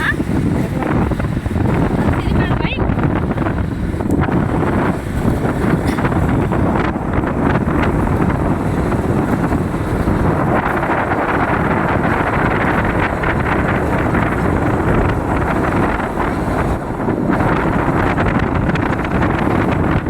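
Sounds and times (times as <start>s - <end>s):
road vehicles rumbling: 0.0s - 20.0s
wind buffeting microphone: 0.0s - 20.0s.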